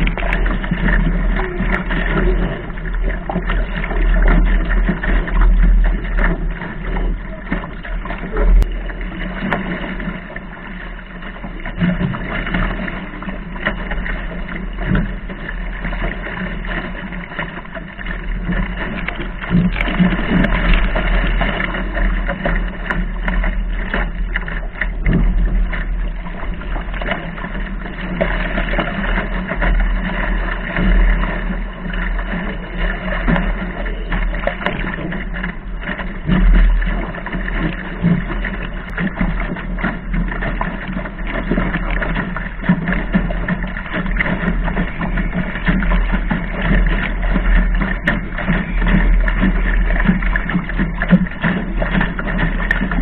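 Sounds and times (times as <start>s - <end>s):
water rushing and splashing: 0.0s - 53.0s
wind buffeting microphone: 0.0s - 53.0s.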